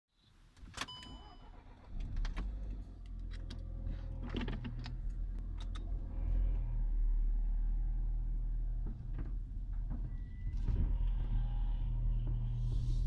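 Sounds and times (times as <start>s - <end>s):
car engine starting and idling: 0.6s - 13.0s.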